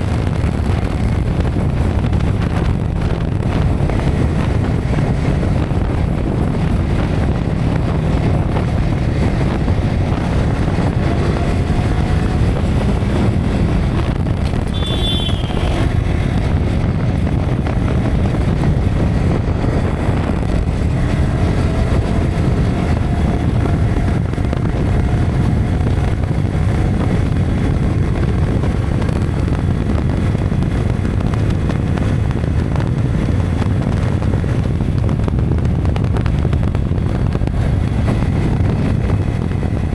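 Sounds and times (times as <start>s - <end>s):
motorcycle engine revving: 0.0s - 39.9s
wind buffeting microphone: 0.0s - 39.9s.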